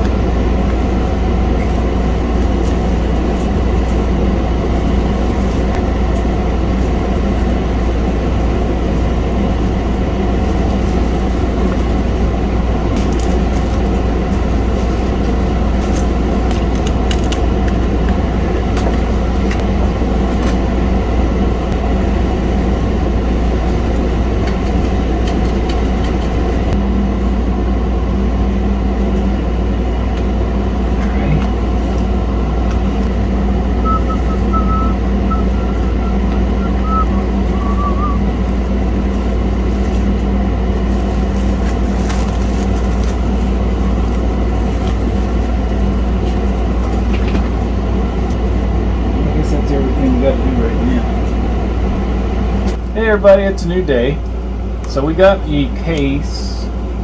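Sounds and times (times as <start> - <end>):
faint hum: 0.0 - 57.0
low mechanical rumble: 0.0 - 57.0.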